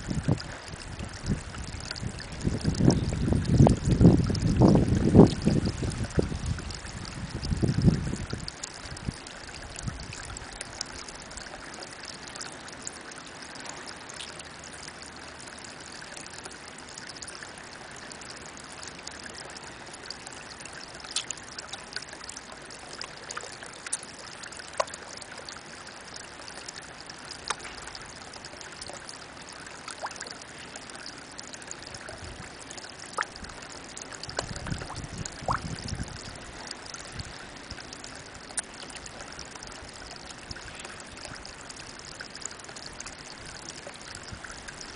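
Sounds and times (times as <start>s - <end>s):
water drips plinking: 0.0s - 44.9s
water trickling into a pond: 0.0s - 44.9s.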